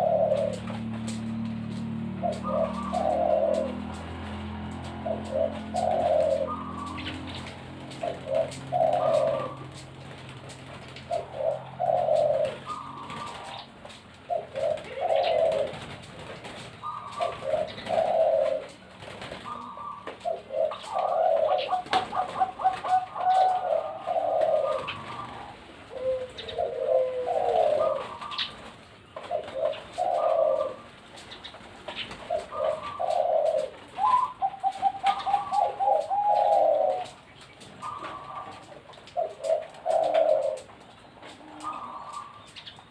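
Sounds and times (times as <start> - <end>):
doves cooing: 0.0 - 42.9.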